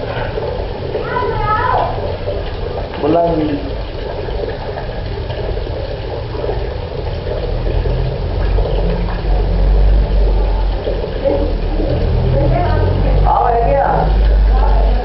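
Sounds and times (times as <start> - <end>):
tap water splashing into bucket: 0.0 - 15.0.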